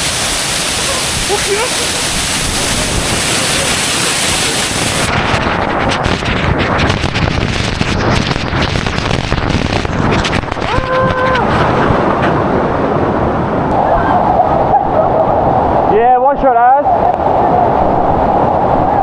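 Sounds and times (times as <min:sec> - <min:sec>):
wind buffeting microphone: 0:00.0 - 0:16.1, 0:16.9 - 0:19.0
splashing rushing water: 0:00.0 - 0:19.0.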